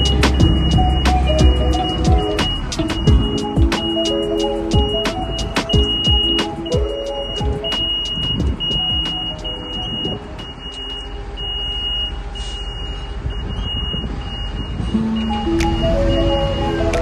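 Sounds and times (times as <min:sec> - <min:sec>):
heavy vehicle engine running: 0:00.0 - 0:17.0
reversing alarm beeping: 0:00.0 - 0:17.0.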